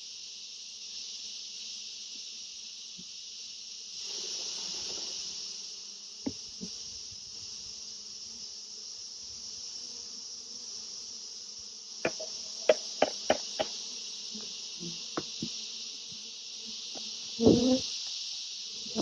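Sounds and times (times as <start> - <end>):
bees buzzing faintly: 0.0 - 19.0
high-pitched insect chorus: 0.0 - 19.0.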